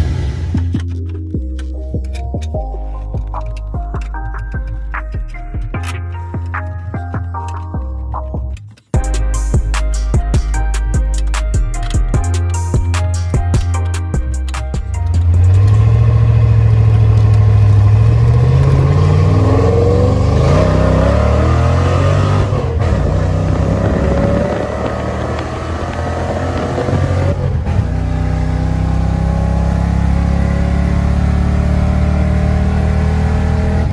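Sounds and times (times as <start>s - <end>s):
car engine accelerating: 0.0s - 8.6s, 11.1s - 33.9s.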